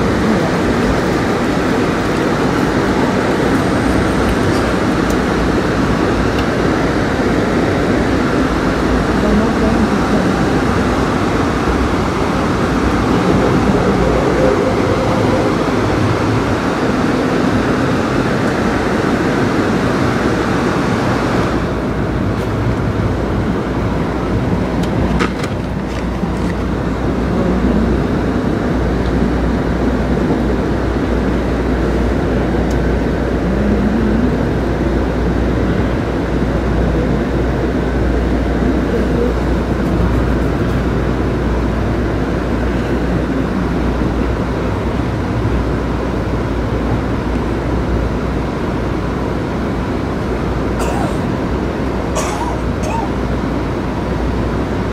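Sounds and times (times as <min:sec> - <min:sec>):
train rumbling on rails: 0:00.0 - 0:54.9.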